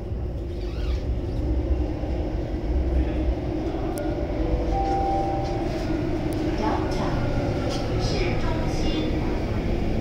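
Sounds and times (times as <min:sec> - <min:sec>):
train hum: 0:00.0 - 0:10.0
train rumbling through tunnel: 0:00.0 - 0:10.0.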